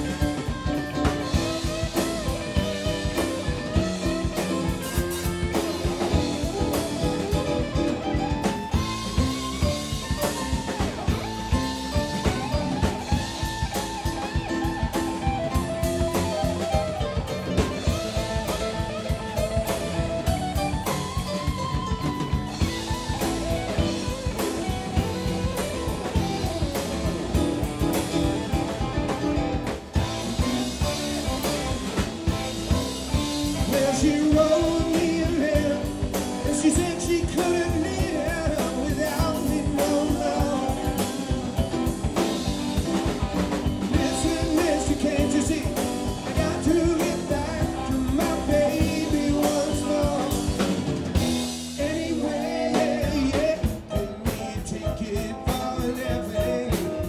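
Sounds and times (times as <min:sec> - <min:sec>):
drum kit beat: 0:00.0 - 0:57.0
electric guitar: 0:00.0 - 0:57.0.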